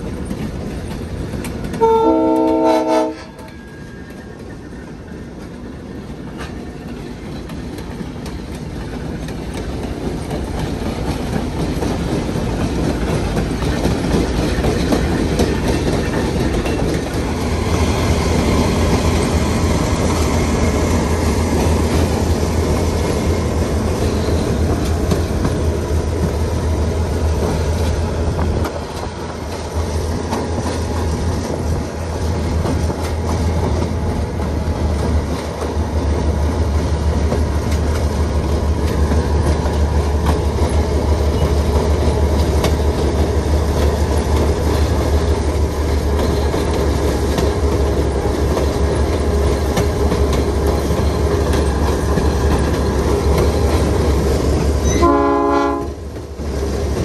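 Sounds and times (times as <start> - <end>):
deep locomotive drone: 0.0 - 57.0
train wheels rumbling on track: 0.0 - 57.0.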